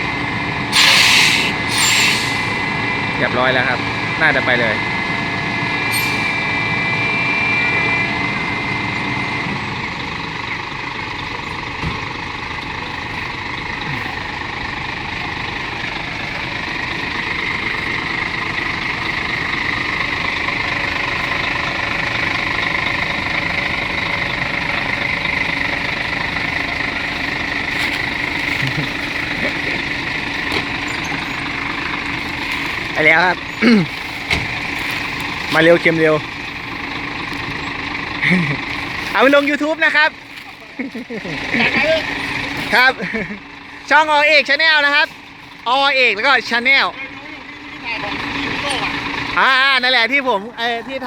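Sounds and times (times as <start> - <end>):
truck diesel engine running: 0.0 - 51.0.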